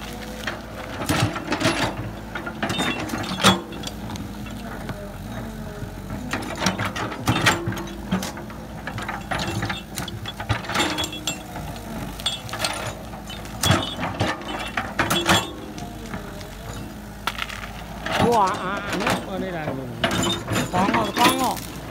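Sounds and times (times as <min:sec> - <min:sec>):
excavator bucket clanking: 0:00.0 - 0:21.9
excavator diesel engine under load: 0:00.0 - 0:21.9.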